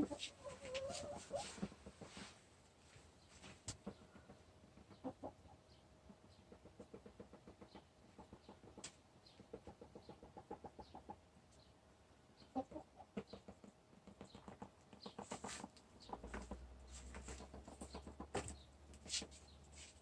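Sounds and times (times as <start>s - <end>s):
hen clucking softly: 0.0s - 2.3s, 3.7s - 11.7s, 12.4s - 19.7s.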